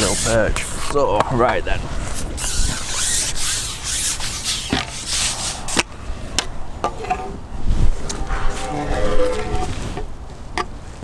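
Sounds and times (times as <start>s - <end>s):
fishing tackle rubbing and scraping: 0.0s - 1.0s, 2.0s - 10.1s.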